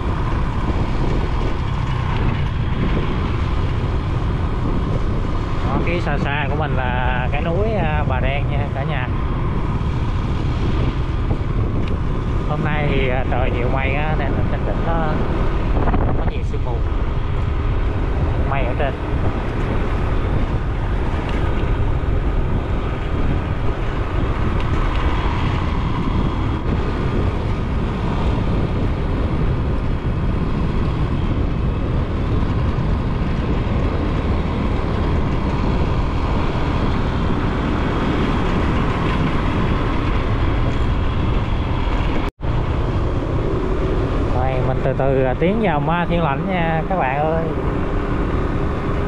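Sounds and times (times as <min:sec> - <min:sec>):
motorbike engine: 0:00.0 - 0:49.0
road noise: 0:00.0 - 0:49.0
wind buffeting microphone: 0:00.0 - 0:49.0.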